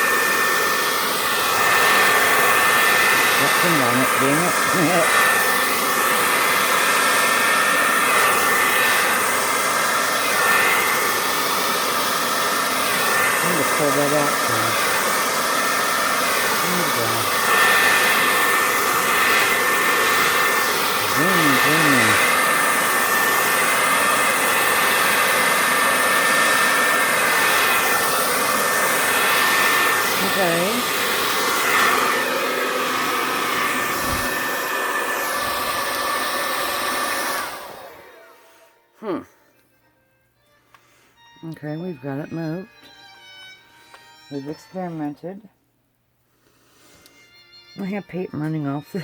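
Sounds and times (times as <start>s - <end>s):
blow-dryer running: 0.0s - 39.2s.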